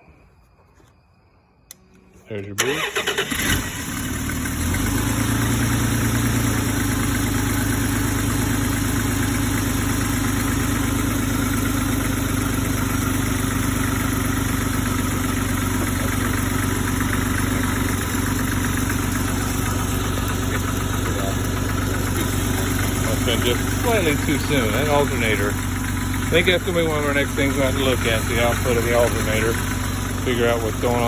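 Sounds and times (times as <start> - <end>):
car engine idling: 2.6 - 31.0.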